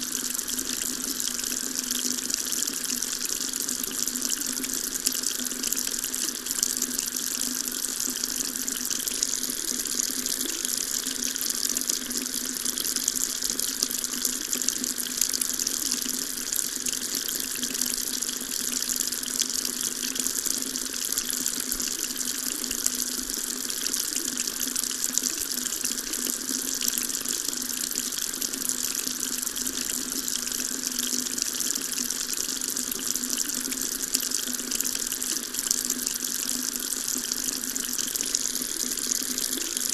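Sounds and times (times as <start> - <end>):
water tap running: 0.0 - 39.9.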